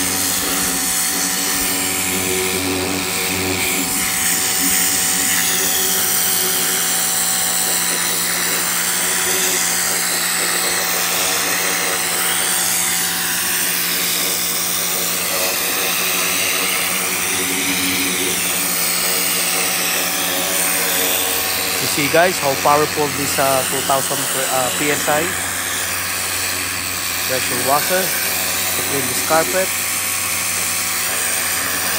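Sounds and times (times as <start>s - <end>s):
pressure washer motor humming: 0.0s - 31.9s
water jet hissing on carpet: 0.0s - 31.9s.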